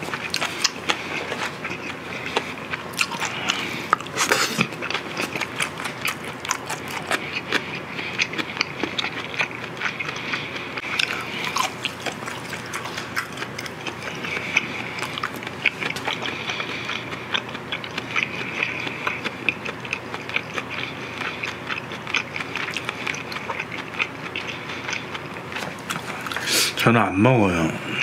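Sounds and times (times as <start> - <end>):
chewing meat: 0.0 - 26.8.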